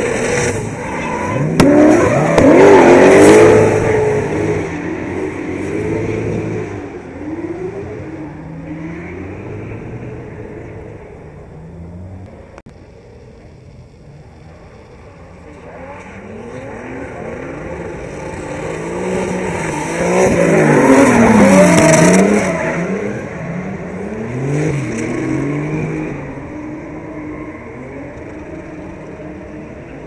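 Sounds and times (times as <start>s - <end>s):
car engine revving: 0.0s - 12.6s, 14.4s - 30.0s.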